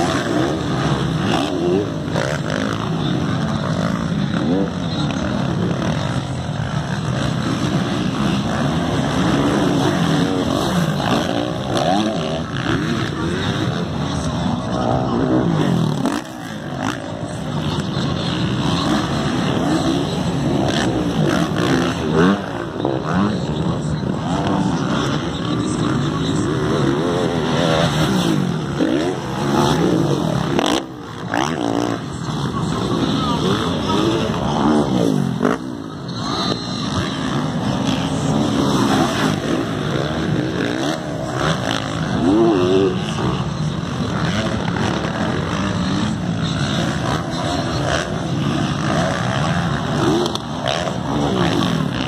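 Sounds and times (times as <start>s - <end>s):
motocross engines revving: 0.0s - 52.0s.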